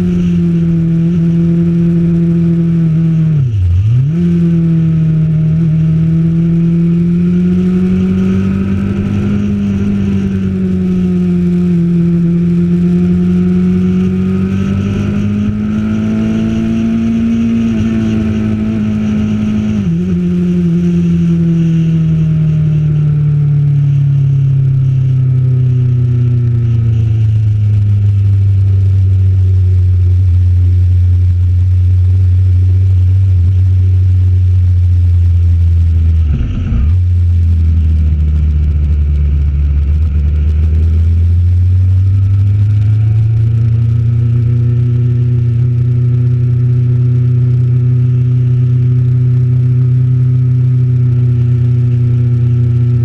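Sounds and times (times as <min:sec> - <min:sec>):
motorcycle engine: 0:00.0 - 0:53.0.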